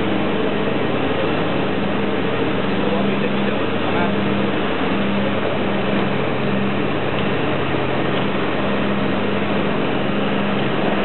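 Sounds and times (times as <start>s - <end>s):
ice resurfacer engine drone: 0.0s - 11.0s.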